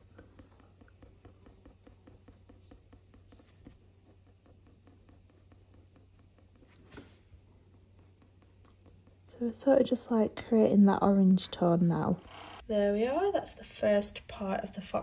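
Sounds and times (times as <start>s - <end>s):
pencil scratching on paper: 0.0s - 12.2s.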